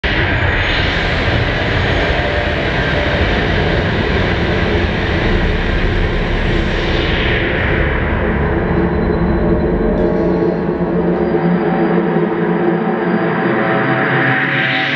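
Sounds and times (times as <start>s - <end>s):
dark ambient industrial drone: 0.0s - 14.9s.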